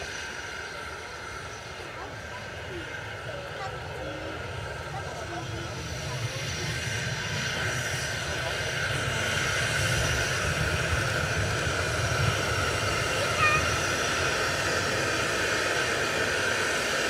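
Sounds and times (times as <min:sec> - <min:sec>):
steam locomotive rumble and hiss: 0:00.0 - 0:17.0.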